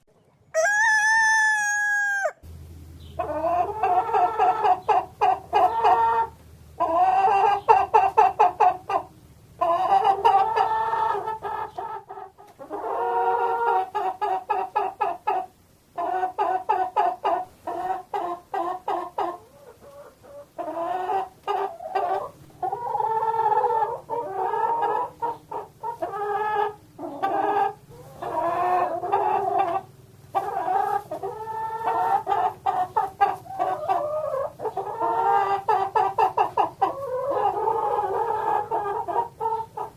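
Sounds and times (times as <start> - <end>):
chickens clucking and cackling: 0.0 - 39.9.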